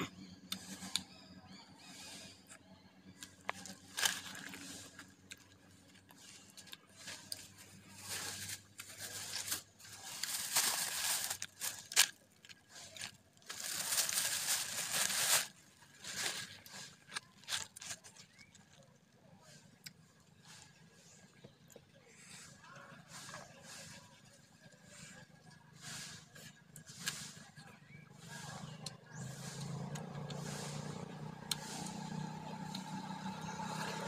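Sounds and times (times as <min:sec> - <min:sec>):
crunchy chewing of fried food: 0:00.0 - 0:34.0.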